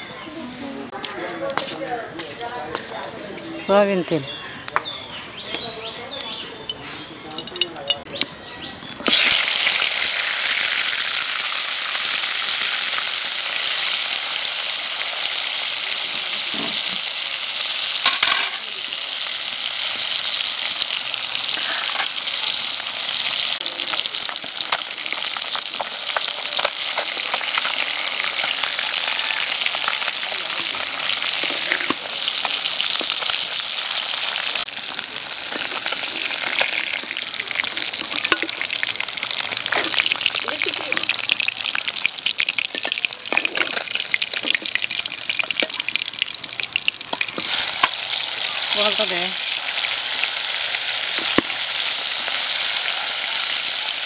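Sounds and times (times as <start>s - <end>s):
fish frying in hot oil: 8.8s - 54.0s.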